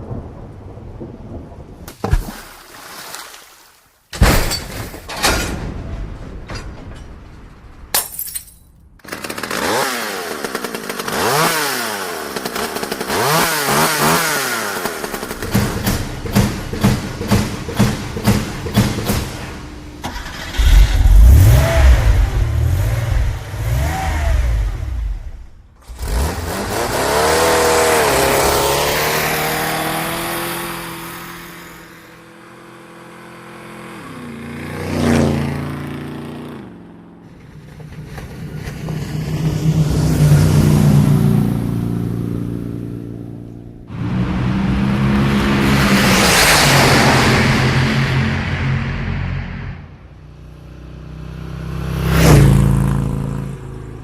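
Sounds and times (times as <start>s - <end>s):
vehicle engines revving: 9.3s - 54.0s.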